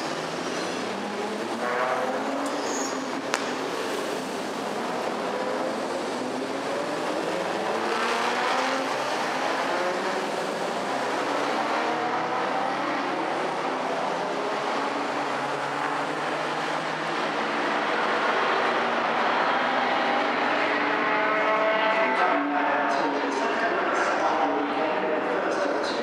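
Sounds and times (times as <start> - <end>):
racing car engines accelerating: 0.0 - 26.0.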